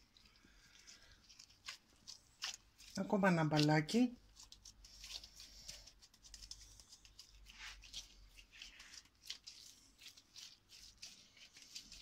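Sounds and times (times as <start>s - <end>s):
gloved hands rolling minced meat: 0.0s - 12.0s.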